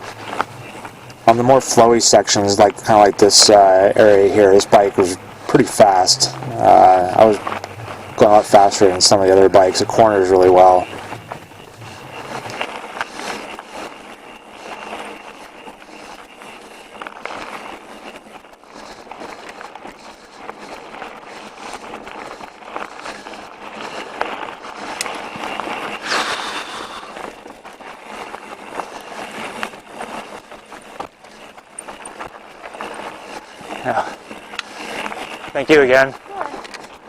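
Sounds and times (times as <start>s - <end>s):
bike clicks and rattles: 0.0s - 37.0s
bike tyres crunching over dirt: 0.0s - 37.0s
rush of noise: 0.0s - 37.0s.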